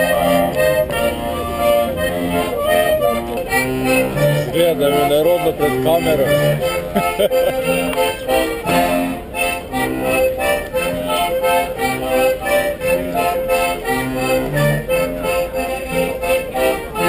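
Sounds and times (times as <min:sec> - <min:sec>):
accordion playing folk dance music: 0:00.0 - 0:17.0.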